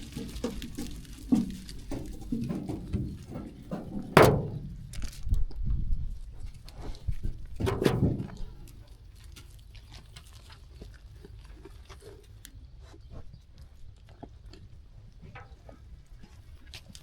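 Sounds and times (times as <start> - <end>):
sheep chewing: 0.0 - 5.6, 6.2 - 17.0
hoof steps: 0.0 - 17.0.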